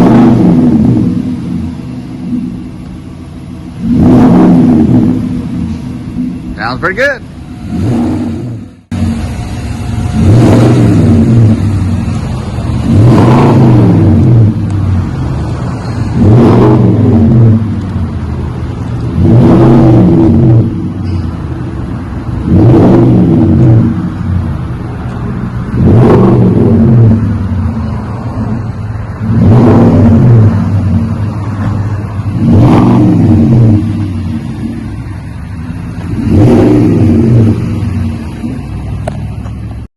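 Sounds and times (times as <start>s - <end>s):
truck engine revving from idle: 0.0s - 39.8s.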